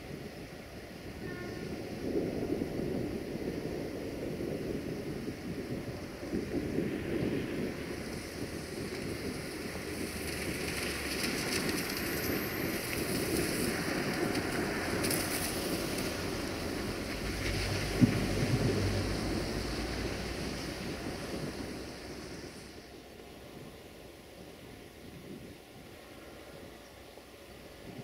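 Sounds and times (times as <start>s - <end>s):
distant diesel locomotive rumble: 0.0s - 28.0s
wind buffeting microphone: 0.0s - 28.0s
hiss: 0.2s - 23.4s.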